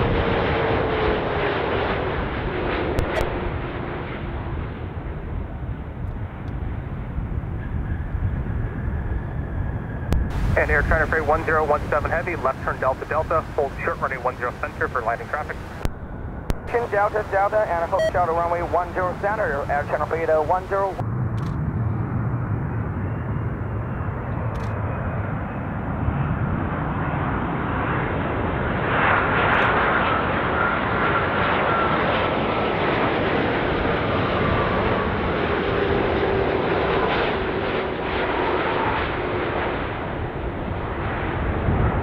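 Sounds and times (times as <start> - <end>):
jet airliner rumble: 0.0 - 42.0.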